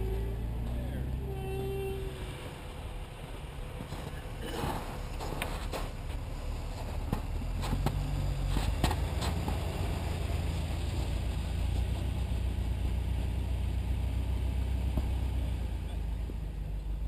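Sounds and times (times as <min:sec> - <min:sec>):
engine running low: 0:00.0 - 0:17.0.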